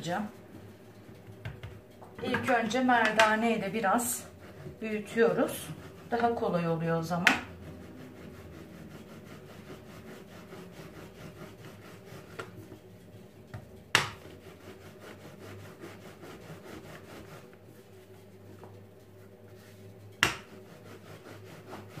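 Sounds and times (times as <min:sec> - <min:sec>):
rolling pin rubbing on dough: 0:00.0 - 0:22.0.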